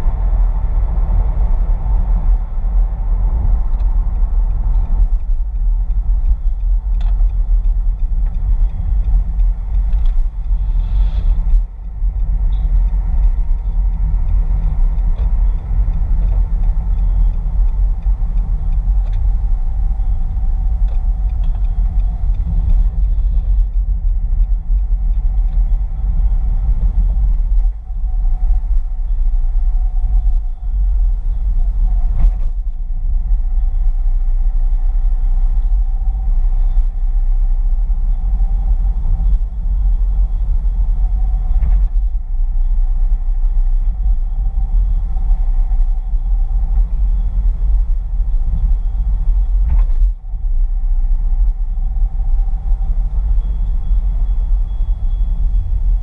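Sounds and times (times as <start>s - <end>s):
engine and road rumble: 0.0s - 56.0s.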